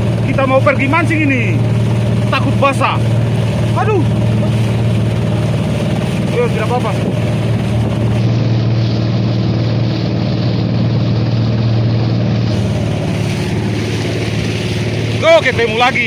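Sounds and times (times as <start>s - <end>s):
motorboat engine humming: 0.0s - 16.0s
rushing water: 0.0s - 16.0s.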